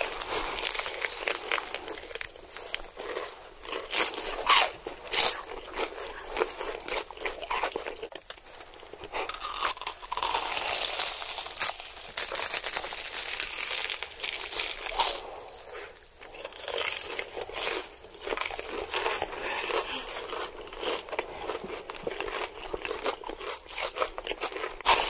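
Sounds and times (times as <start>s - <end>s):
crunchy biting and chewing: 0.0s - 25.0s.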